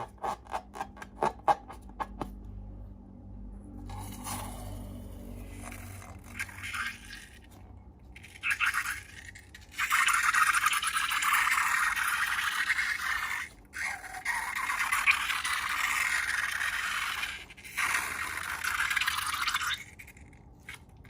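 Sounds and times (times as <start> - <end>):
slime being stirred and scraped: 3.8 - 21.0.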